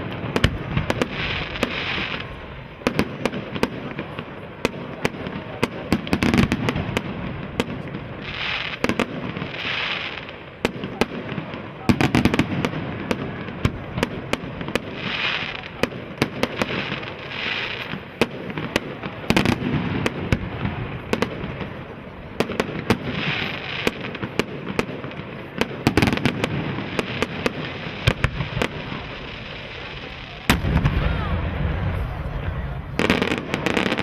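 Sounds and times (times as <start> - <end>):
fireworks crackling: 0.0 - 34.0
fireworks cracks and bangs: 0.0 - 34.0.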